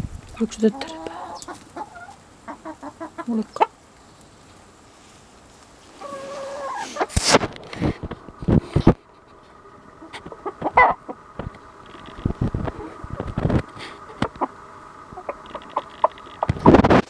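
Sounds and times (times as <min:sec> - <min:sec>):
hens and rooster clucking: 0:00.2 - 0:17.0.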